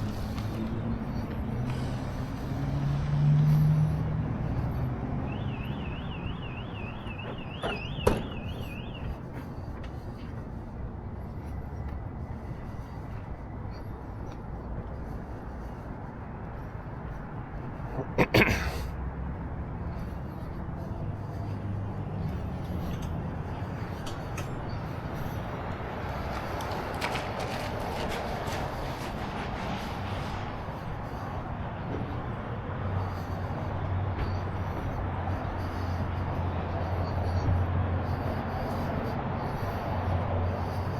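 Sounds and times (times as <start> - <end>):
vehicle engines humming: 0.0 - 40.9.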